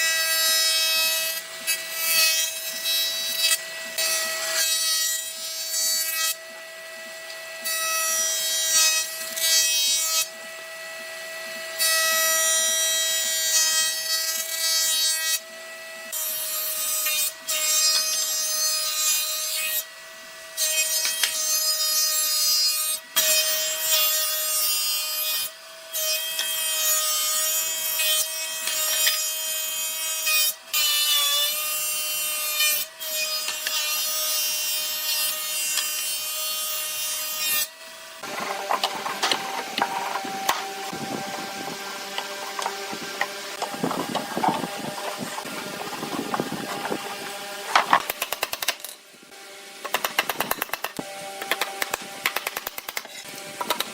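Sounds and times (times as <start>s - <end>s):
power tool cutting wood: 0.0s - 53.9s.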